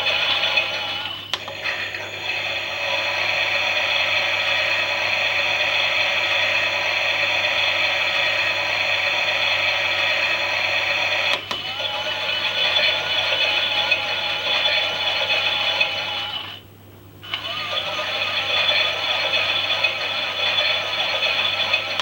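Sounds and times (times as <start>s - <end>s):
toy washing machine whirring: 0.0s - 16.6s, 17.3s - 22.0s.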